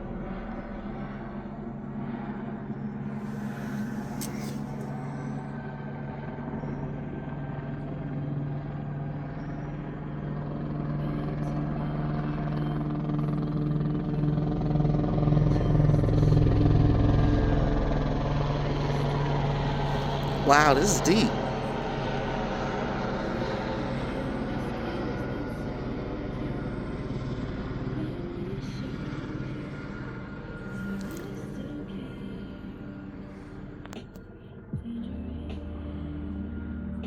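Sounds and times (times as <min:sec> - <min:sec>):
helicopter rotor drone: 0:00.0 - 0:37.0.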